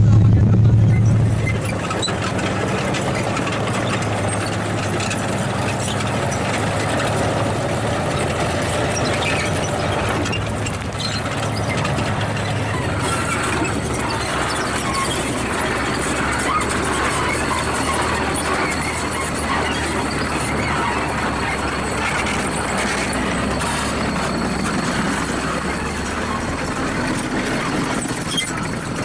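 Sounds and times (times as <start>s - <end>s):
high squeal: 0.0s - 29.0s
tracked vehicle engine hum: 0.0s - 29.0s
tracks rumbling and clattering: 0.0s - 29.0s.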